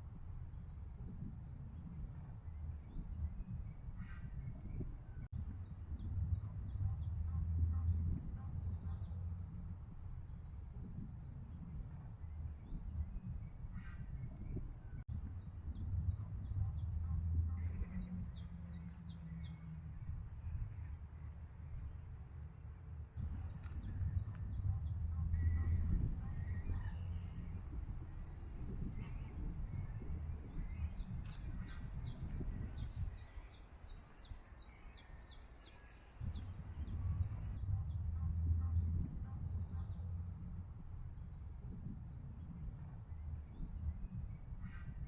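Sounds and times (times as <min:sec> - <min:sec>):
low uneven rumble: 0:00.0 - 0:45.0
songbirds chirping and trilling: 0:00.0 - 0:45.0.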